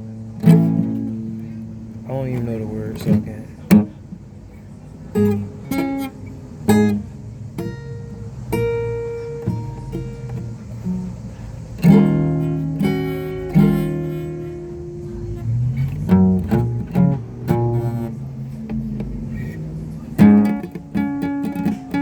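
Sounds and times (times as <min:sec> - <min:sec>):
guitar chords strummed: 0:00.0 - 0:22.0
guitar plucked notes: 0:00.0 - 0:22.0.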